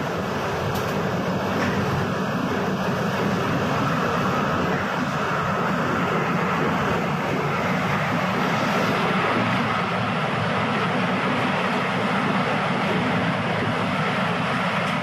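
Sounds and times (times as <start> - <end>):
vehicle noise drone: 0.0 - 15.0.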